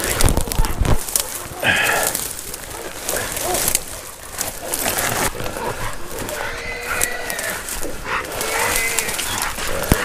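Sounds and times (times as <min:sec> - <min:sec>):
brush rustling: 0:00.0 - 0:10.0
hounds baying: 0:00.0 - 0:10.0.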